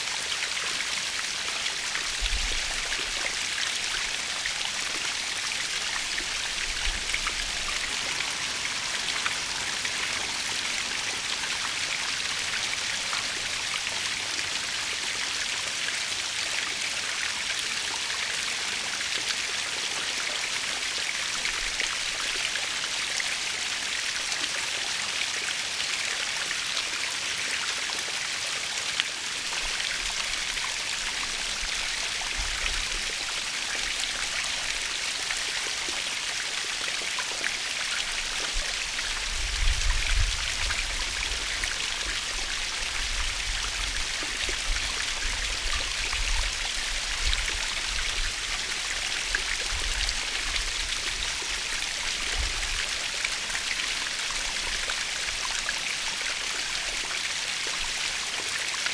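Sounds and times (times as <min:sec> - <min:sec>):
water splashes and drips: 0:00.0 - 0:58.9
waterfall hiss: 0:00.0 - 0:58.9.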